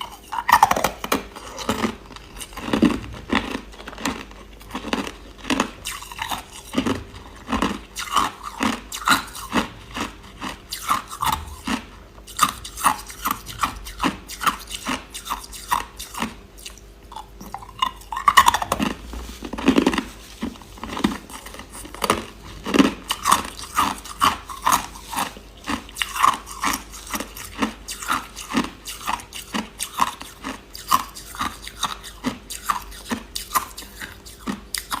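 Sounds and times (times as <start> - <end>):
person chewing crushed ice: 0.0 - 35.0.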